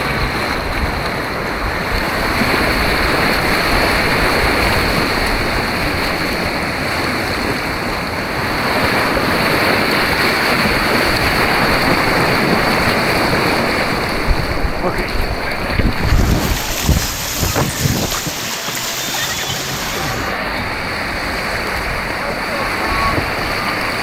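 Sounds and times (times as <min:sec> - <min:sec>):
churning white water rushing: 0:00.0 - 0:24.0.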